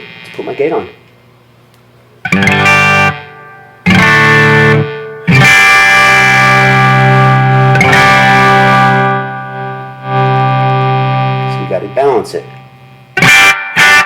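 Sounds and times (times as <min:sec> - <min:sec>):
electric guitar chords: 0:00.0 - 0:14.0.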